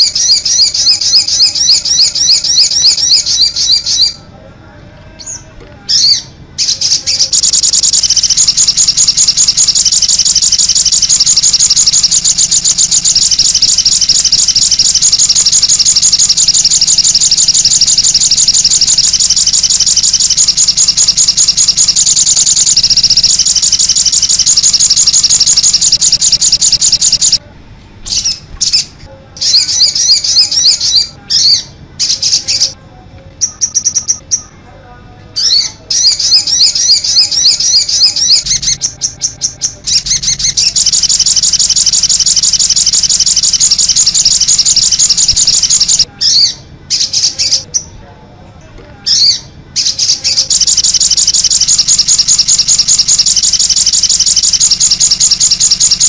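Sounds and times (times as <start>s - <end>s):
bird chattering trill: 0.0s - 4.2s, 5.2s - 27.4s, 28.1s - 32.8s, 33.4s - 34.6s, 35.4s - 47.9s, 49.1s - 56.0s.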